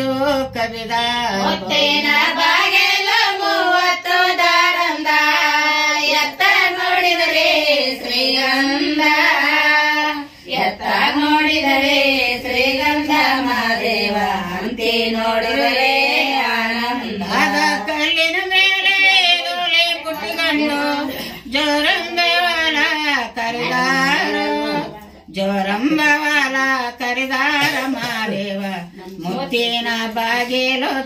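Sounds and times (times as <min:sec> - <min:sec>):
women singing unaccompanied: 0:00.0 - 0:31.0.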